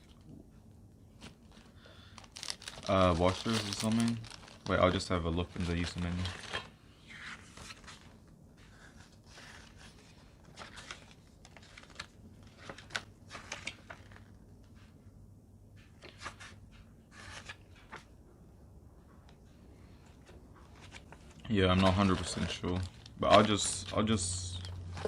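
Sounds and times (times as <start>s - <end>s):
paper pages rustling: 1.1s - 15.0s, 15.8s - 18.1s, 19.9s - 25.0s.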